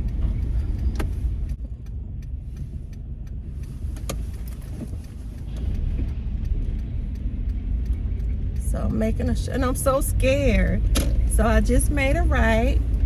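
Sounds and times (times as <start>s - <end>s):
truck cab rumble: 0.0s - 13.0s.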